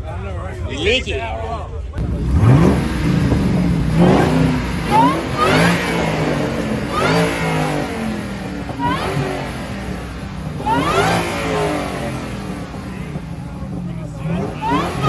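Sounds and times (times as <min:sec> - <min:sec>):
engine revving in short blips: 0:02.0 - 0:15.0.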